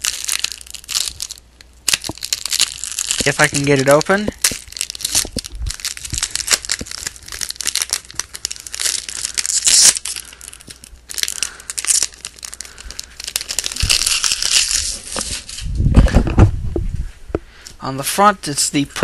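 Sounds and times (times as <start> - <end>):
wrapper tearing and crinkling: 0.0 - 15.8.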